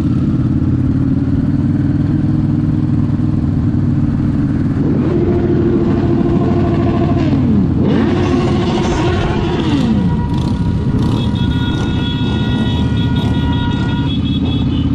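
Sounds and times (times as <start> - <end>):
sport motorcycle engine revving: 0.0 - 14.9.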